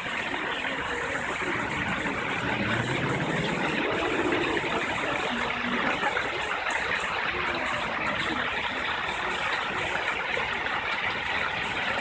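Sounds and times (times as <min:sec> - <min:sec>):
faint voices: 0:00.0 - 0:12.0
fountain water splashing: 0:00.0 - 0:12.0.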